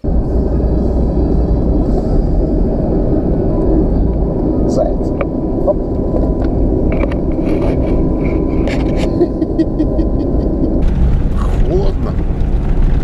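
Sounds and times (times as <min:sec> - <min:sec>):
vehicle rumbling on dirt track: 0:00.0 - 0:13.0.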